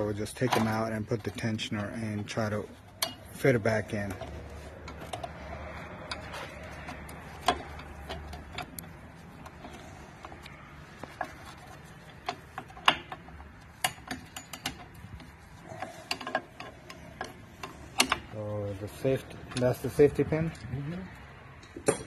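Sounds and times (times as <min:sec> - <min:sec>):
metal parts clicking and clinking: 0:00.0 - 0:18.4, 0:21.6 - 0:22.0.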